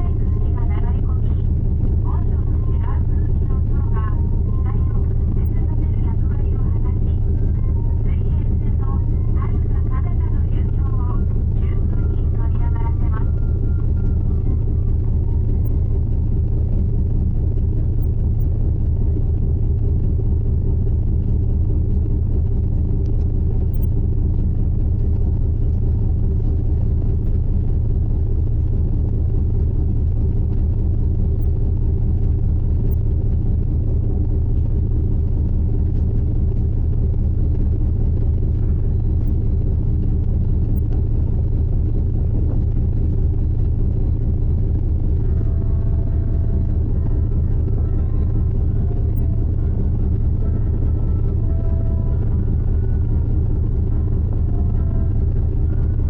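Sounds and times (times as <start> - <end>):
ship engines droning: 0.0 - 56.0.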